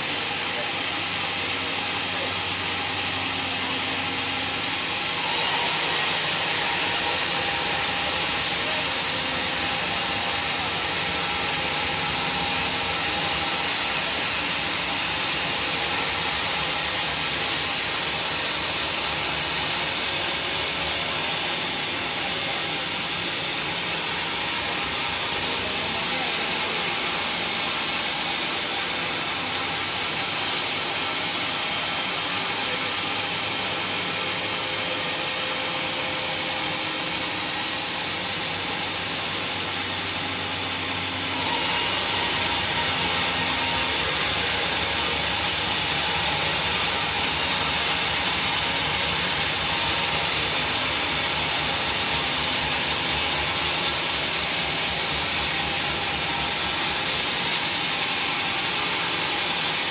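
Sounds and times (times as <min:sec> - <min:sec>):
woodworking machinery hissing: 0:00.0 - 0:59.9.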